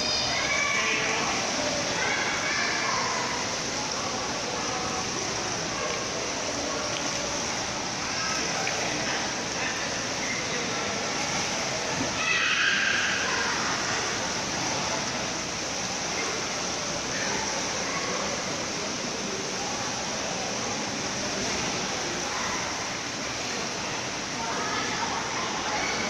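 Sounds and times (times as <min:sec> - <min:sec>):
pool water noise: 0:00.0 - 0:26.0
swimmer splashing: 0:00.0 - 0:26.0.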